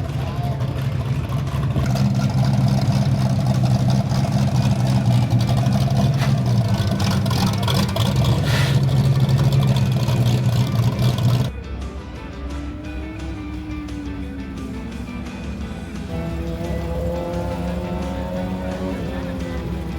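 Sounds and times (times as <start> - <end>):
car engine running steadily: 0.0 - 19.9.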